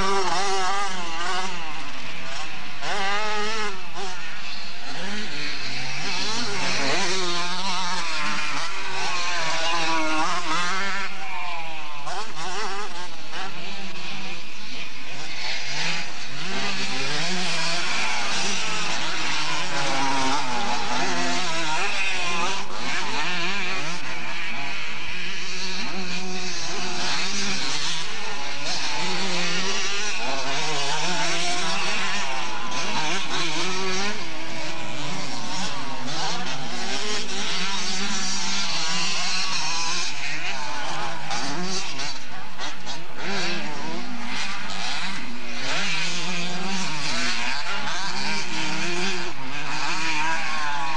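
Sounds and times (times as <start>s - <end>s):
motocross bikes revving: 0.0s - 50.9s.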